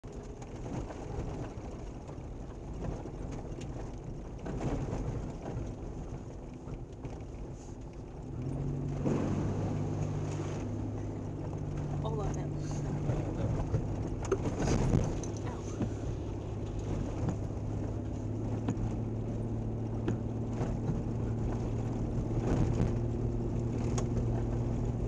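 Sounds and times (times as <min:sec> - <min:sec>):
car engine: 0:00.0 - 0:25.0
tyres rumbling on gravel: 0:00.0 - 0:25.0
car splashing through puddle: 0:00.3 - 0:25.0.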